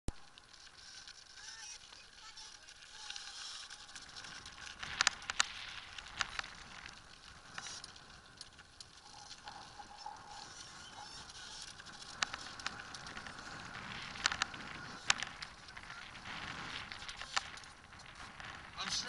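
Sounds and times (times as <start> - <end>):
sail and rig crackling hiss: 0.1 - 19.0
sharp clicks and snaps: 2.6 - 18.8.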